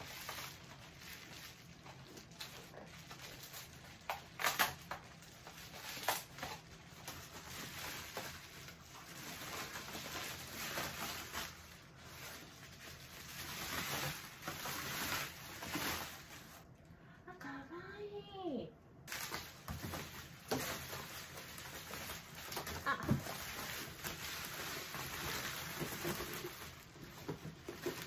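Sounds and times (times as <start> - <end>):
bubble wrap crinkling: 0.0 - 17.0, 19.0 - 28.0.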